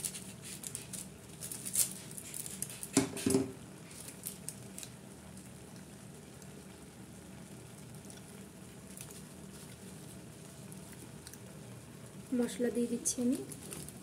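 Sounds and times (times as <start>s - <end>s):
light sizzle: 0.0s - 14.0s
noodles bubbling and crackling: 0.0s - 14.0s
steady low hum: 0.0s - 14.0s.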